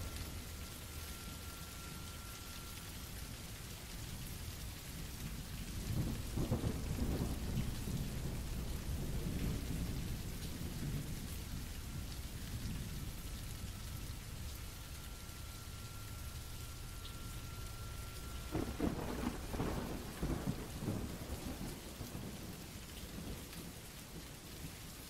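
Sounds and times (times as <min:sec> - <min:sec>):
thunder rumbling: 0:00.0 - 0:23.8
steady rain: 0:00.0 - 0:25.0.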